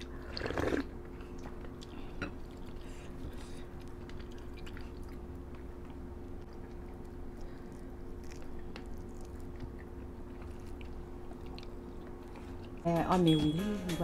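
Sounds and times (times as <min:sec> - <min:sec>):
steady low hum: 0:00.0 - 0:14.0
people chewing: 0:00.2 - 0:12.8.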